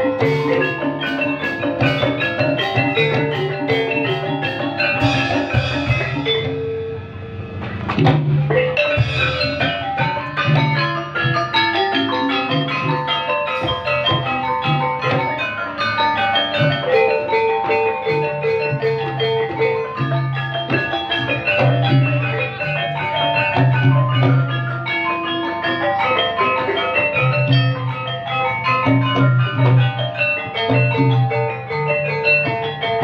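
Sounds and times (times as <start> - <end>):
drums: 0.0 - 33.0
tuned percussion ensemble: 0.0 - 33.0.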